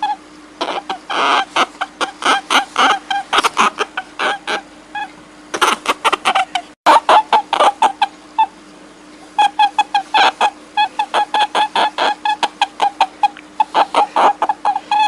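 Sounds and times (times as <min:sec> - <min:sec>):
animal clucking calls: 0:00.0 - 0:08.6, 0:09.2 - 0:15.0.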